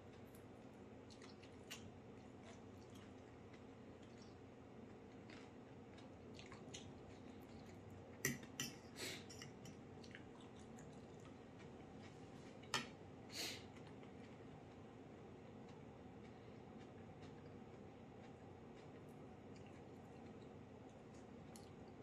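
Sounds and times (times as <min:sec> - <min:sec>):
faint eating sounds: 0:00.0 - 0:22.0.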